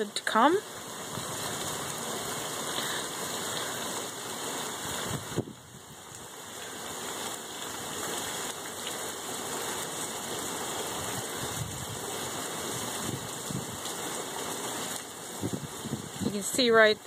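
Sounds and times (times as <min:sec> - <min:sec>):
heavy rain on flooded street: 0:00.0 - 0:17.0.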